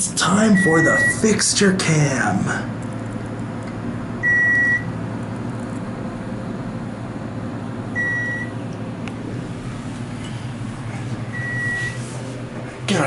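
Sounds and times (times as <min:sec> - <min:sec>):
elevator car humming: 0:00.0 - 0:13.0.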